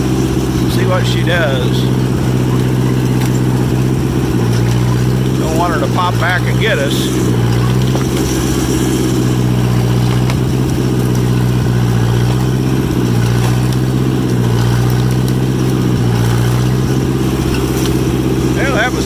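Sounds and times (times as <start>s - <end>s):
crawler engine running: 0.0s - 19.0s.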